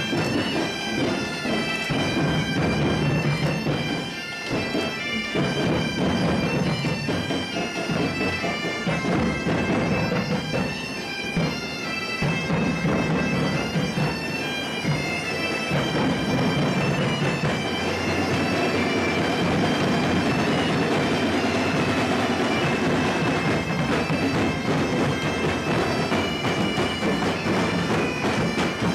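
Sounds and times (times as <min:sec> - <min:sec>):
bagpipes playing melody over drone: 0:00.0 - 0:28.9.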